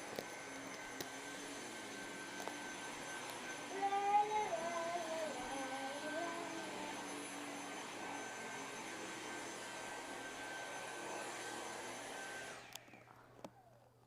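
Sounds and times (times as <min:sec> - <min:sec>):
vacuum cleaner motor whine: 0:00.0 - 0:13.9.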